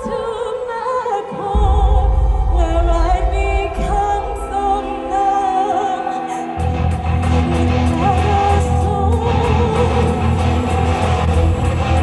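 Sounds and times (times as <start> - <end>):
stage-show music with operatic singing: 0.0 - 12.0.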